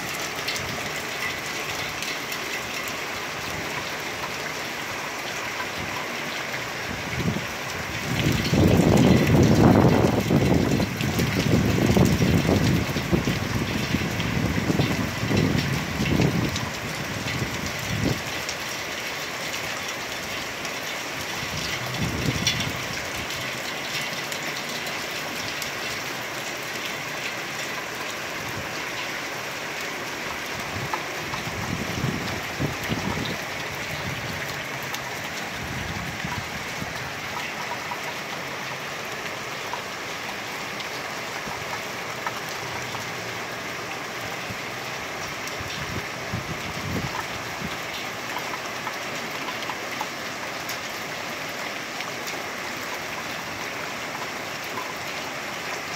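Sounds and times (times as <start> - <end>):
heavy rain pouring: 0.0 - 55.9
water rushing along gutter: 0.0 - 55.9.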